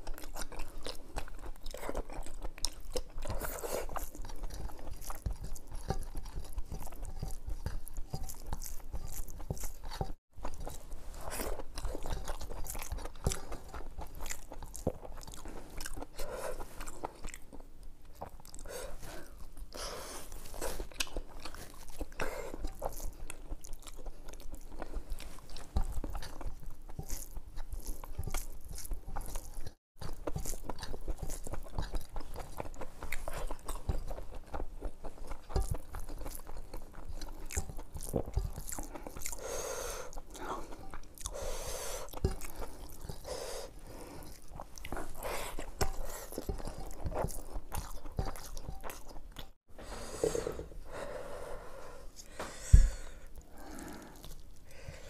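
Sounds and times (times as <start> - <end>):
person chewing and smacking: 0.0 - 49.7, 52.1 - 55.0.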